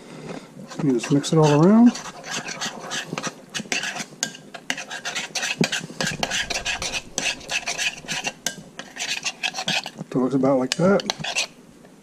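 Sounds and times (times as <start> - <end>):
utensil scraping glass bowl: 0.7 - 10.0, 11.0 - 11.6.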